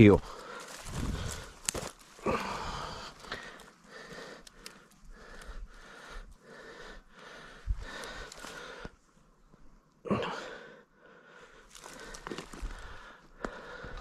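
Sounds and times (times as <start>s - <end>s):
person breathing hard: 0.2s - 9.0s, 10.1s - 14.0s.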